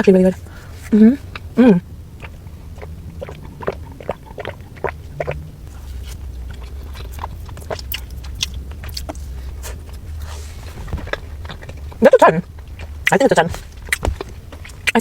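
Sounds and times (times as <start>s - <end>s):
chewing cake close up: 0.0s - 15.0s
steady low hum: 0.0s - 15.0s.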